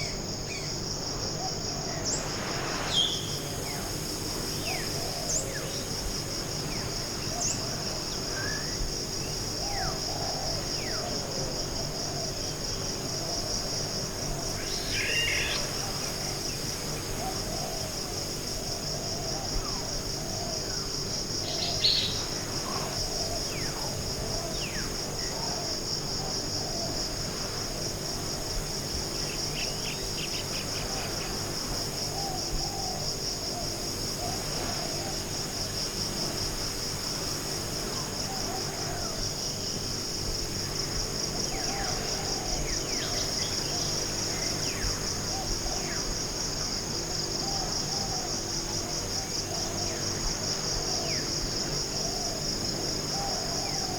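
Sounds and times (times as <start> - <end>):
high-pitched insect trill: 0.0 - 53.9.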